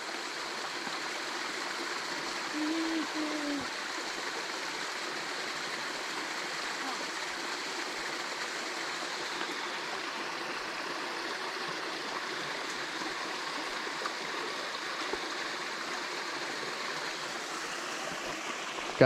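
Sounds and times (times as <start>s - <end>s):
small waterfall splashing: 0.0s - 19.0s
stream rushing: 0.0s - 19.0s.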